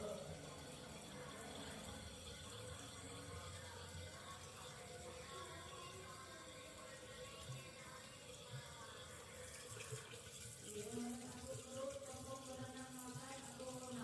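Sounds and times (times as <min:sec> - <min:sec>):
water running from tap: 0:00.0 - 0:14.0.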